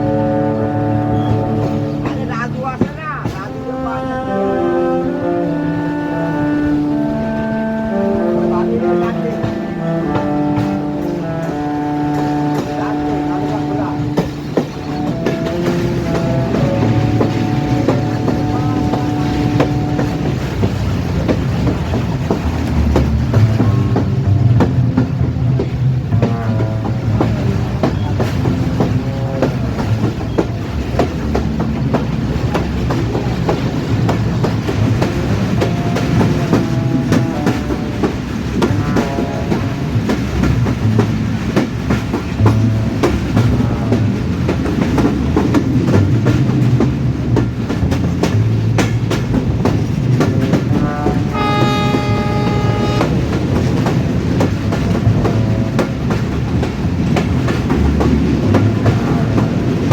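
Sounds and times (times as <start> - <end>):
train horn: 0.0 - 59.9
train wheels clattering on rails: 0.0 - 59.9.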